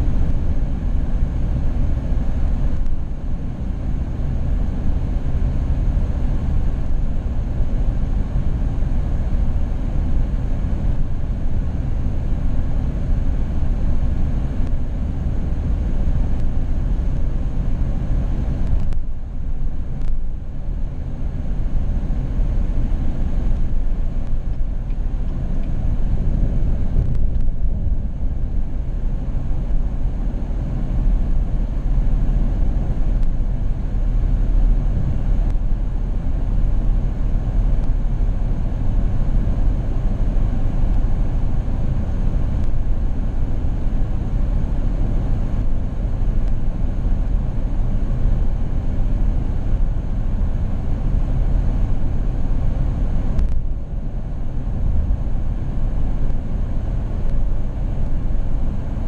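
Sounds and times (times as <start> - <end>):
low hum: 0.0 - 59.0
vehicle engine and road rumble: 0.0 - 59.0.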